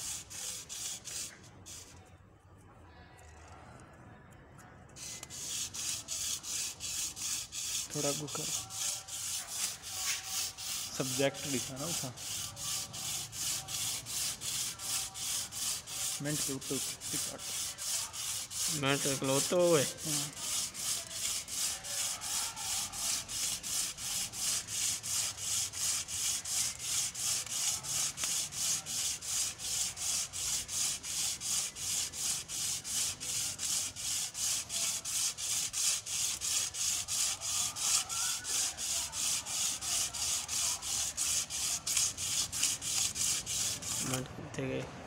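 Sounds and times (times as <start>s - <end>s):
cord rubbing on metal: 0.0s - 2.1s, 5.0s - 44.2s.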